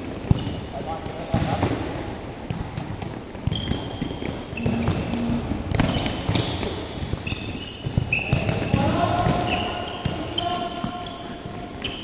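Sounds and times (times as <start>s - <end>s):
ball kicks echoing in hall: 0.0s - 12.0s.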